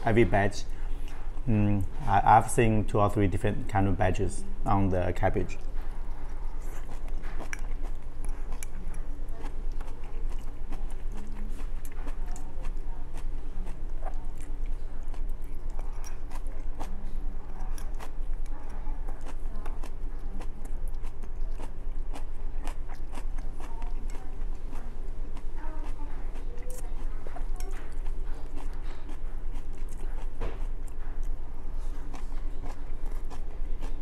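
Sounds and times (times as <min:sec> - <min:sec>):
steady low hum: 0:00.0 - 0:34.0
person chewing food: 0:00.1 - 0:02.6, 0:04.8 - 0:34.0.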